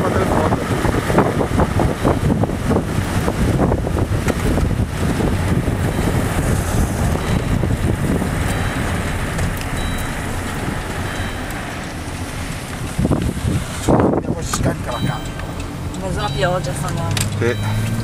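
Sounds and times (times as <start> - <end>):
gusty wind buffeting microphone: 0.0 - 18.0.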